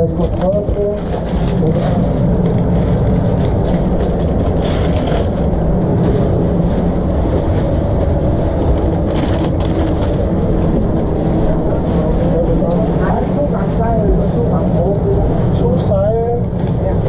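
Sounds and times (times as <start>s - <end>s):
low machine rumble: 0.0s - 17.0s.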